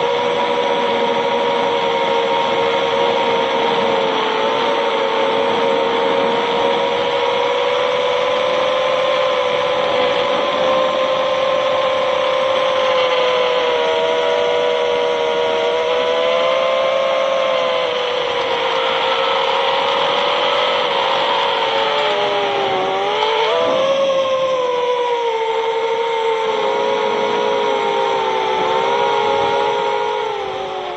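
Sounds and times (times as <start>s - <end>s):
drone propellers whining: 0.0s - 30.9s.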